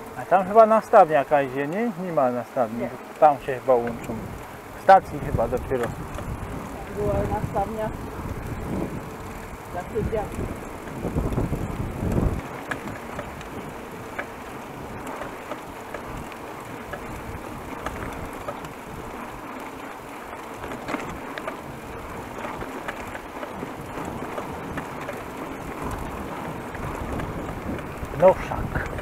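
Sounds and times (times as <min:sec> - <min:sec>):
bicycle tyres on asphalt: 0:00.0 - 0:29.0
wind buffeting microphone: 0:02.3 - 0:29.0
small clicks and rattles: 0:02.9 - 0:29.0.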